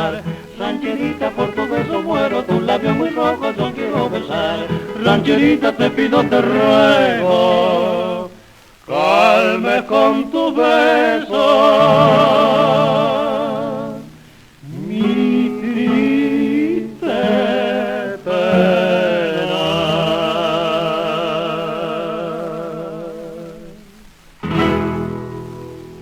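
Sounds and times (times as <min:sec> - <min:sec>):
guitar accompaniment: 0:00.0 - 0:09.9, 0:11.3 - 0:26.0
person singing with vibrato: 0:00.0 - 0:24.3.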